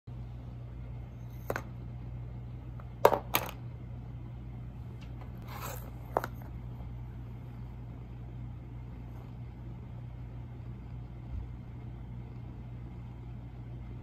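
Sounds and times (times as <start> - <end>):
steady low hum: 0.1 - 14.0.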